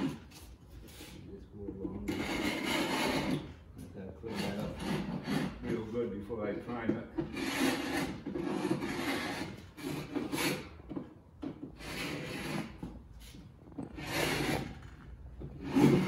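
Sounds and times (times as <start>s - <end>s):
hand scraper scraping putty: 0.0s - 3.6s, 4.3s - 6.1s, 6.8s - 16.0s.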